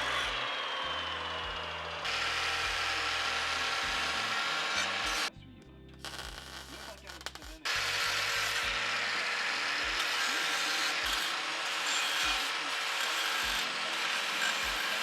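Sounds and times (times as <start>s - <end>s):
power tool cutting metal pipe: 0.0s - 5.3s, 6.0s - 15.0s.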